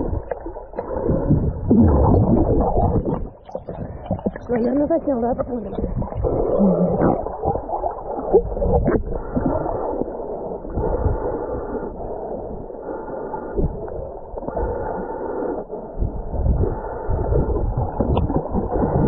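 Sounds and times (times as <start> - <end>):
water sloshing underwater: 0.0 - 19.0.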